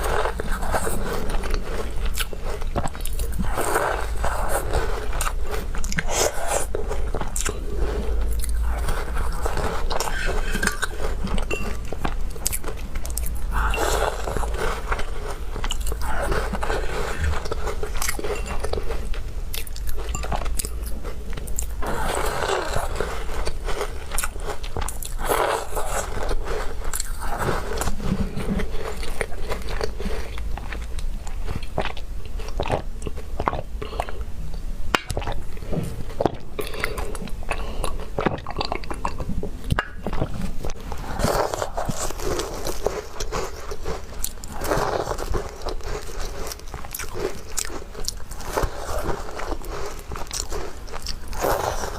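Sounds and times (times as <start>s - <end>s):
person crunching cookies: 0.0s - 34.2s, 35.0s - 51.9s.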